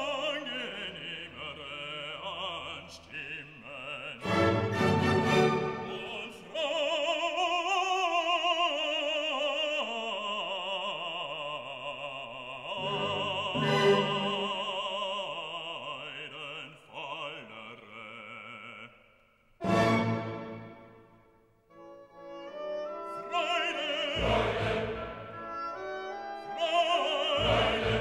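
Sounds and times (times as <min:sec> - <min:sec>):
operatic singing: 0:00.0 - 0:21.1, 0:22.0 - 0:28.0.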